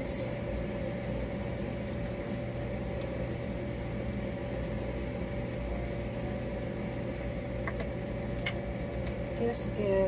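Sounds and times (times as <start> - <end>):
appliance mechanical hum: 0.0 - 10.0.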